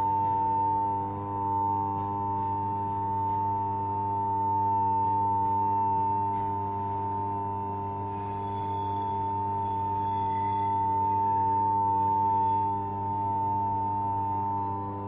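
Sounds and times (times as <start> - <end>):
high-pitched piercing tone: 0.0 - 15.0
low steady hum: 0.0 - 15.0.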